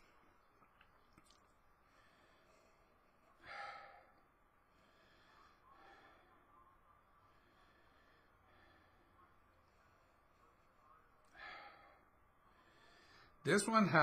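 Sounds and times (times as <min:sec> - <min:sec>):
man breathing faintly: 0:00.0 - 0:13.5.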